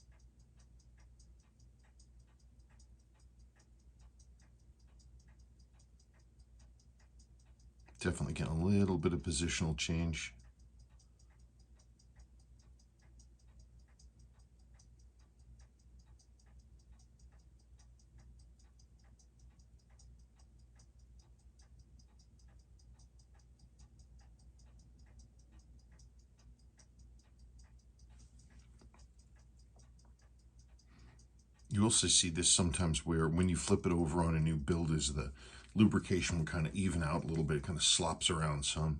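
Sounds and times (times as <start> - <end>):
watch ticking rapidly: 0.0 - 38.9.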